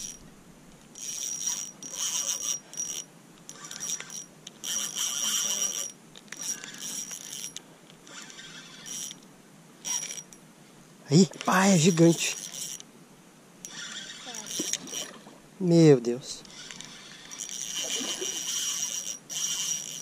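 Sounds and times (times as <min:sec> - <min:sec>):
fishing reel buzzing: 0:00.0 - 0:00.2, 0:00.8 - 0:09.2, 0:09.8 - 0:10.4, 0:11.3 - 0:12.9, 0:13.6 - 0:15.3, 0:16.4 - 0:20.0.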